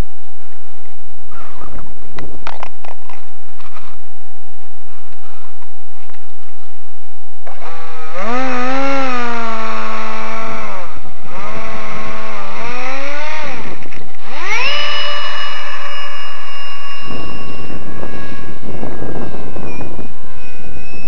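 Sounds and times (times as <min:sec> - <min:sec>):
electric ducted fan whine: 0:00.0 - 0:21.0.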